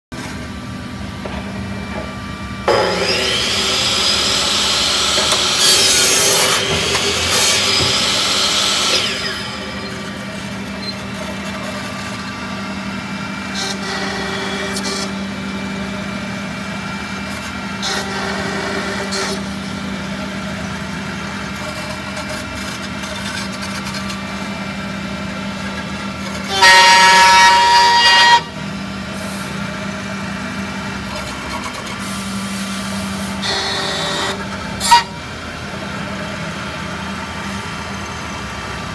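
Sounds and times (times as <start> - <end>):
steady machine hum: 0.1 - 38.9
router spindle whine: 0.2 - 38.9
router cutting wood: 0.4 - 38.9.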